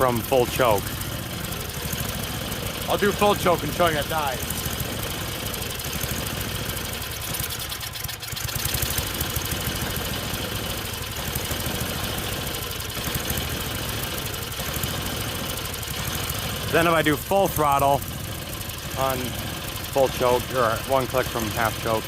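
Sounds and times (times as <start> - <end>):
snowblower engine running unevenly: 0.0 - 22.0.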